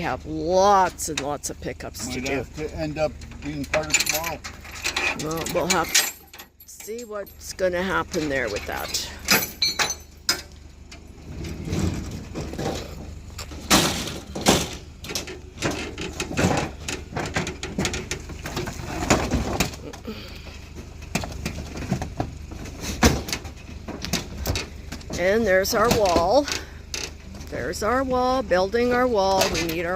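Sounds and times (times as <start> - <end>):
scrap metal clanking: 0.0 - 29.9.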